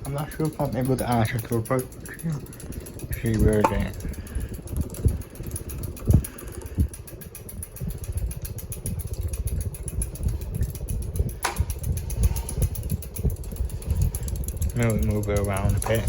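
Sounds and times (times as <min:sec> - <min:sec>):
ceiling fan airflow buffeting microphone: 0:00.0 - 0:16.0.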